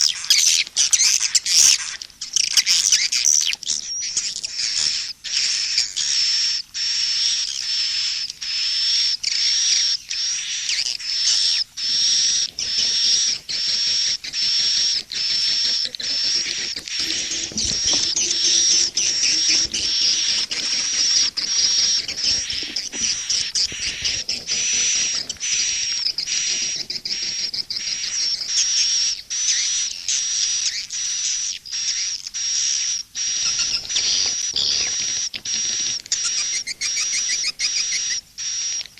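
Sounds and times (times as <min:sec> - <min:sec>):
swiftlets twittering chorus: 0:07.2 - 0:38.7.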